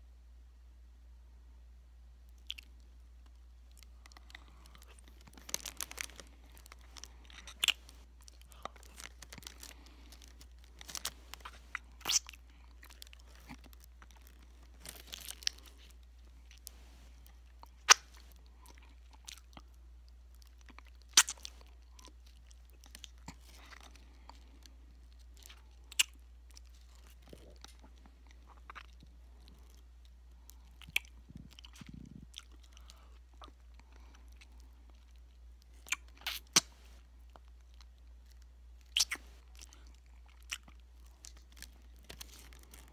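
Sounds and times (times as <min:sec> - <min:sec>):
low steady hum: 0:00.0 - 0:42.9
hard candy cracking: 0:02.3 - 0:36.7, 0:37.3 - 0:42.9
person chewing: 0:02.3 - 0:42.9.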